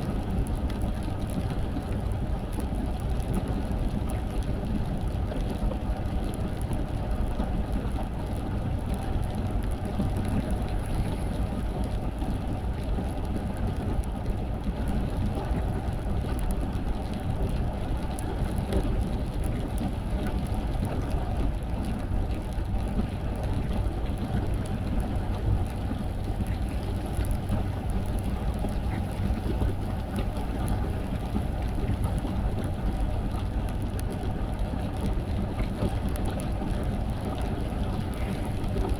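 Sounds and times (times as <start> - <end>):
rain: 0.0 - 38.9.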